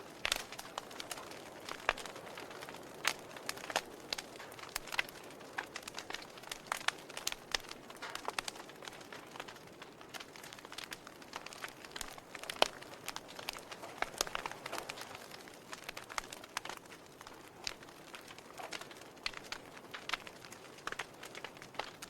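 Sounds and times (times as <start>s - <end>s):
sharp pops and snaps: 0.0s - 22.0s
wood fire crackling: 0.0s - 22.0s.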